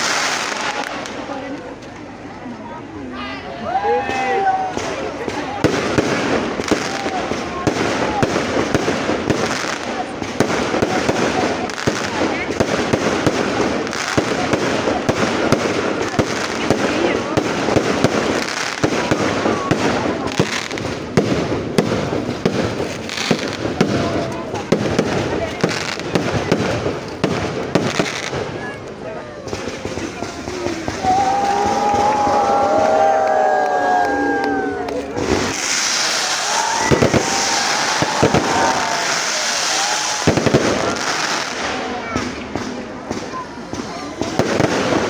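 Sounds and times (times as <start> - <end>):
fireworks crackling and banging: 0.0 - 3.1, 3.8 - 45.0.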